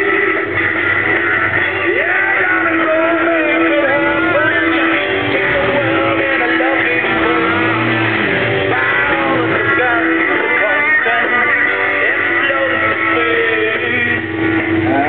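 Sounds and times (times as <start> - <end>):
person singing: 0.0 - 15.0
rock music with guitar: 0.0 - 15.0.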